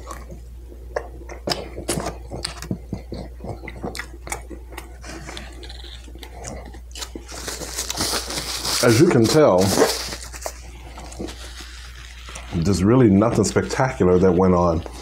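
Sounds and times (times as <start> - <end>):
person chewing food: 0.0 - 8.8, 9.6 - 15.0.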